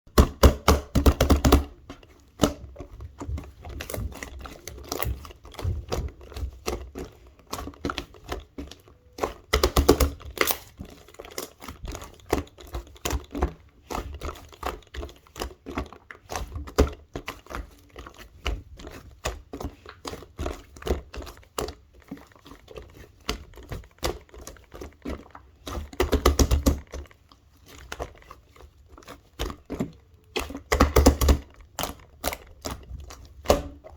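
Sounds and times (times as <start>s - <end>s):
clay slime squished by hand: 0.1s - 33.9s.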